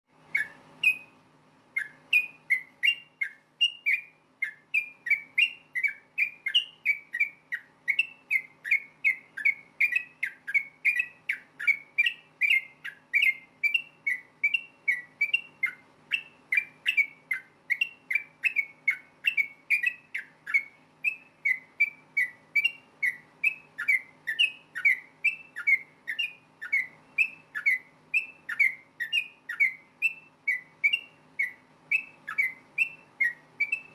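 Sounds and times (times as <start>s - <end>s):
faint steady hum: 0.1s - 33.9s
bird singing bubbling whistles: 0.3s - 1.2s, 1.8s - 33.9s.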